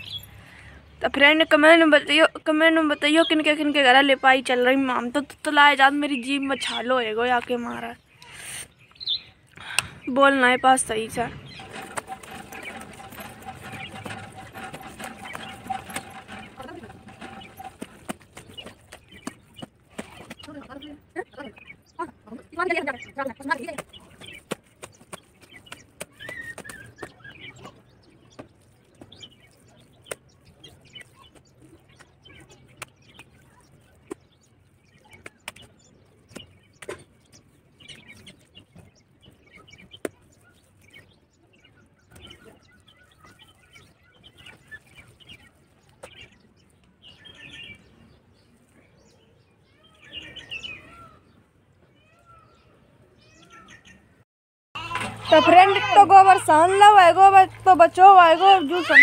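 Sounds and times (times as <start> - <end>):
small birds chirping: 0.0 - 54.2, 54.8 - 59.0.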